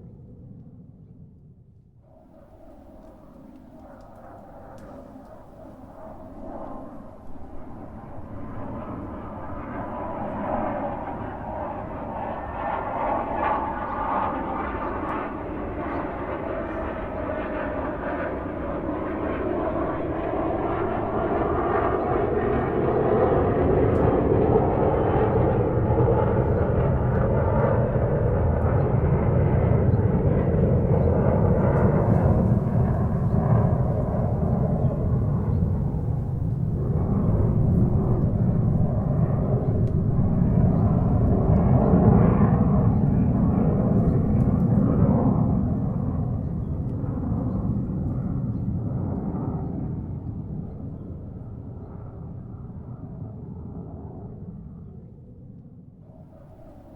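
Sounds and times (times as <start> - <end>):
airplane cabin engine and wind noise: 0.0 - 56.9.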